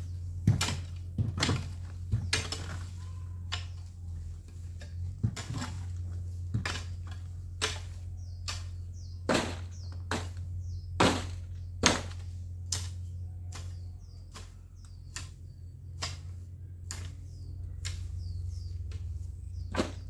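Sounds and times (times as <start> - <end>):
hoe chopping into ground: 0.0 - 20.0.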